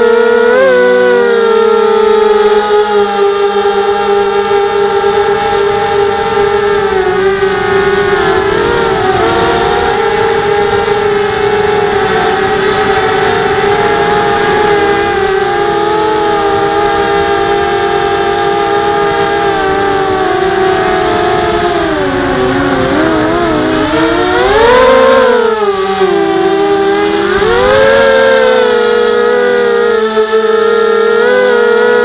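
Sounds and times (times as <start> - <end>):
quadcopter motors whining: 0.0 - 32.0.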